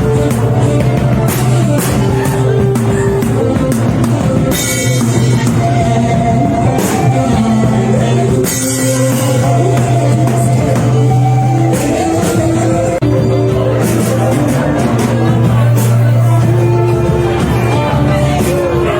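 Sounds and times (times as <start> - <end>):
worship band playing: 0.0 - 18.9.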